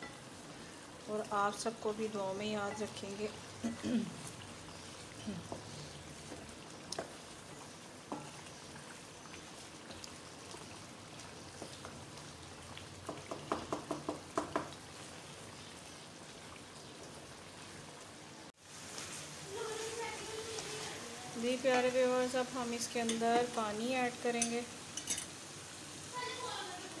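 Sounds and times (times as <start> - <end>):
gravy sizzling and bubbling in pot: 0.0 - 27.0.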